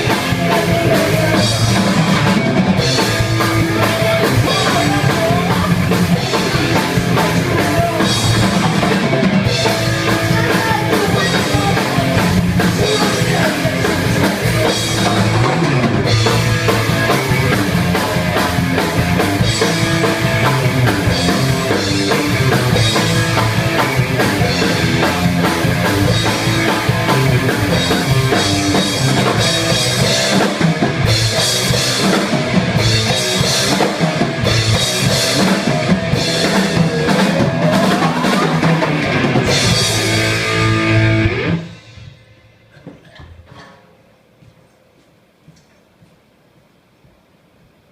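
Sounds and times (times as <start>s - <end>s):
rock music with drums and guitar: 0.0s - 42.5s.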